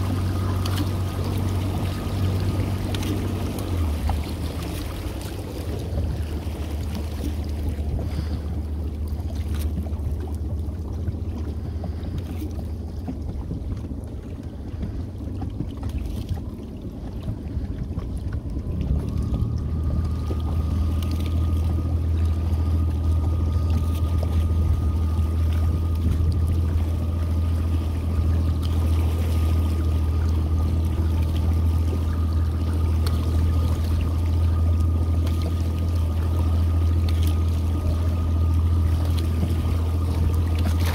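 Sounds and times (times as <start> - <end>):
boat motor running: 0.0 - 40.9.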